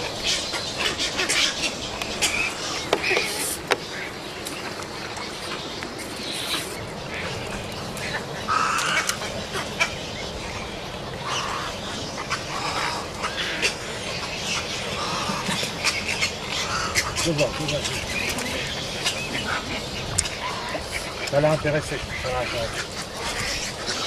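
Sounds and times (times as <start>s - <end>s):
birds squawking and chattering: 0.0s - 24.0s
steady background hiss: 0.0s - 24.0s.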